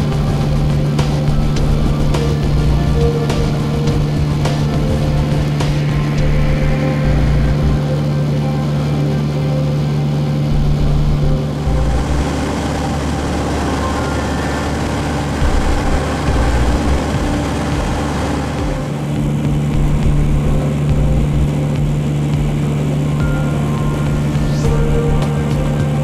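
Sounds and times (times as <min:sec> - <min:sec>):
propeller plane engine droning: 0:00.0 - 0:26.0
rushing air noise: 0:00.0 - 0:26.0.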